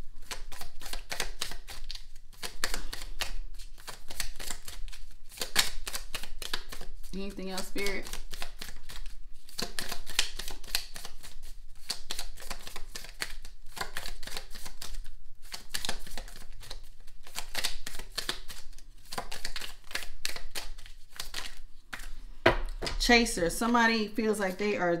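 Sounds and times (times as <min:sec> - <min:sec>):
cards being shuffled: 0:00.2 - 0:23.0.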